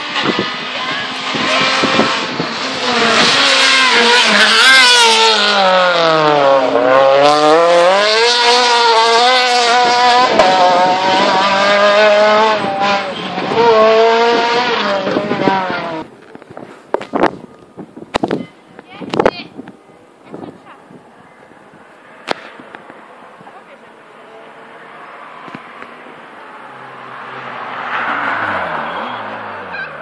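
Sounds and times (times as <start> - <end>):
rally car engine revving: 0.0 - 16.3, 21.1 - 30.0.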